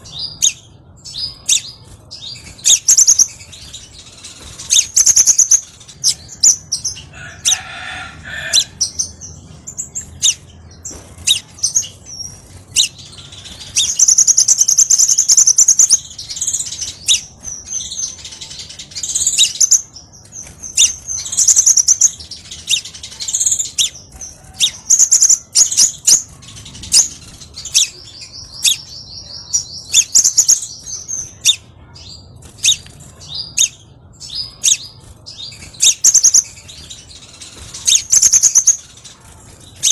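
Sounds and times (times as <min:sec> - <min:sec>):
sunbird chirping and trilling: 0:00.0 - 0:39.9.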